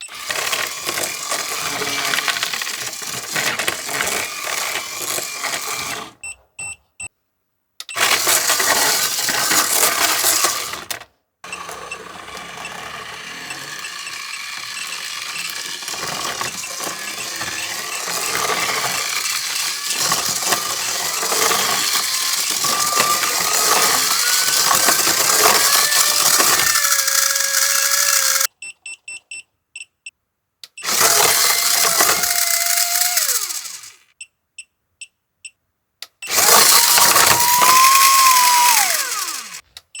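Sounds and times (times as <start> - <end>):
toy train motor whirring: 0.0 - 6.2, 7.9 - 28.5, 30.8 - 34.1, 36.2 - 39.6.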